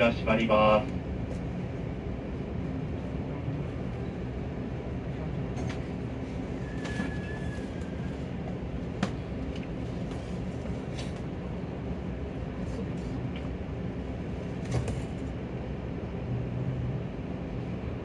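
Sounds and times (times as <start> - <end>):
train cabin low rumble: 0.0 - 18.0.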